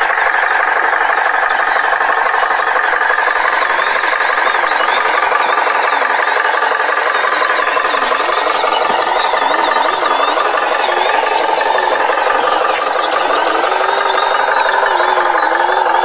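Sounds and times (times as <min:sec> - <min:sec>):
engine running: 0:00.0 - 0:16.0
rattle: 0:00.0 - 0:16.0.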